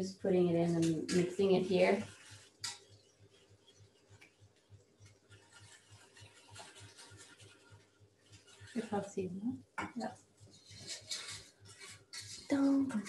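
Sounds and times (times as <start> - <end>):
spoon stirring in steel pot: 0.7 - 9.2, 9.8 - 13.0.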